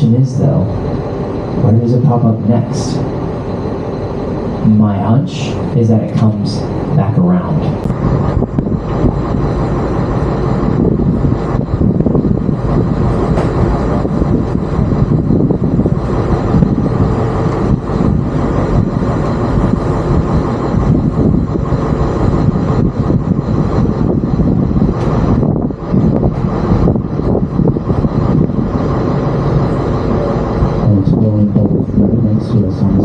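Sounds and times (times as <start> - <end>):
boat engine drone: 0.0 - 33.0.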